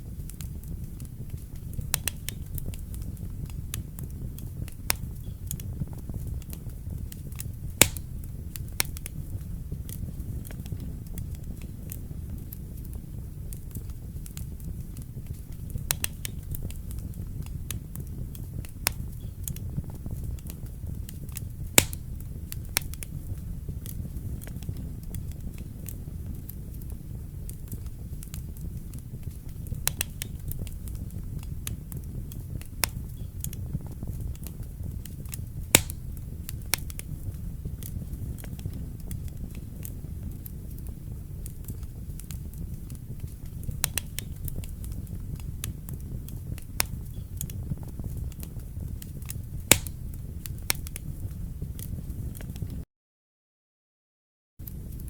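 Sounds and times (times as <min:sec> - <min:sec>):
wood fire crackling: 0:00.0 - 0:52.8, 0:54.6 - 0:55.0.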